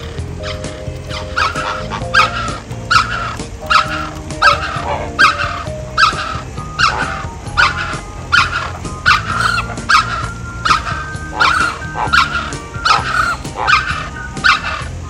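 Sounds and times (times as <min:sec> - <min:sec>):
flamingos honking: 0:00.0 - 0:15.0
low steady tones: 0:00.0 - 0:15.0.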